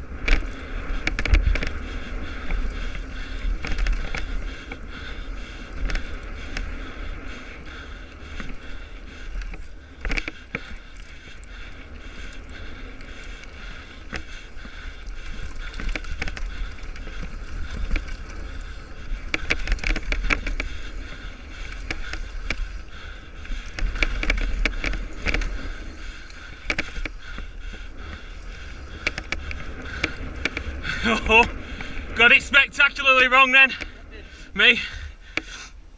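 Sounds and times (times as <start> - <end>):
mountain bike rattling: 0.0 - 35.9
wind rumble on microphone: 0.0 - 35.9.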